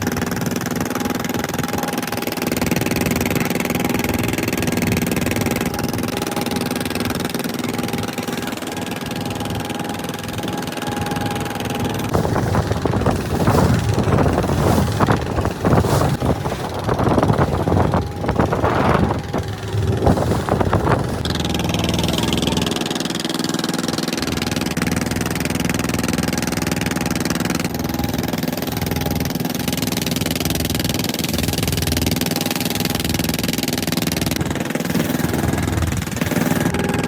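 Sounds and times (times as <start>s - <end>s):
boat engine running steadily: 0.0s - 37.0s
loud irregular noise: 0.0s - 37.0s.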